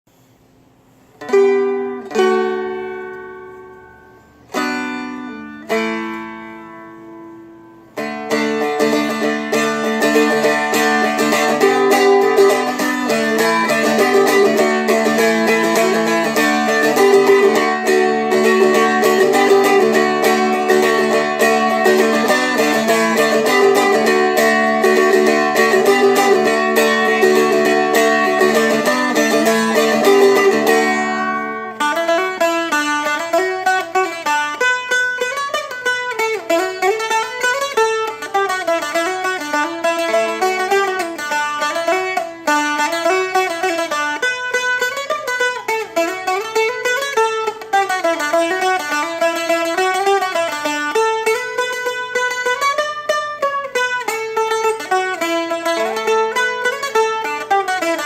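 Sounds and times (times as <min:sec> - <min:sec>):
strummed dulcimer chords: 0:01.2 - 0:58.0
flatpicked melody over drone strings: 0:08.0 - 0:58.0.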